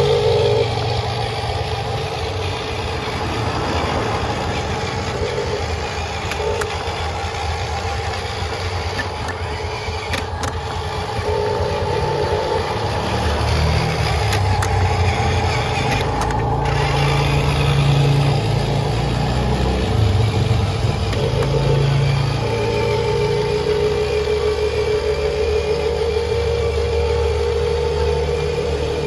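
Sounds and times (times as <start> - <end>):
toy truck motor and gear whine: 0.0 - 29.0.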